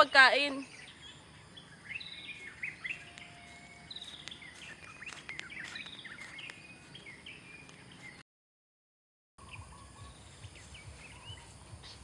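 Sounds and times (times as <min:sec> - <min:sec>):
birds chirping: 0:00.0 - 0:08.2, 0:09.4 - 0:12.0
faint outdoor background: 0:00.0 - 0:08.2, 0:09.4 - 0:12.0.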